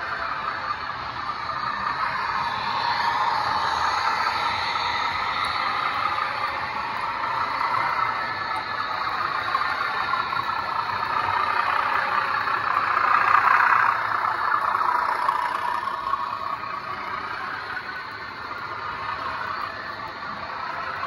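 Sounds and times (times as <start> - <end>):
model diesel locomotive engine sound: 0.0 - 21.0.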